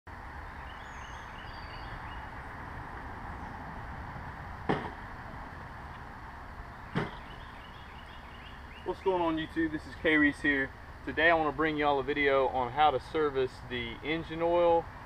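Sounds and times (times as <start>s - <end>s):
steady outdoor hiss: 0.1s - 15.0s.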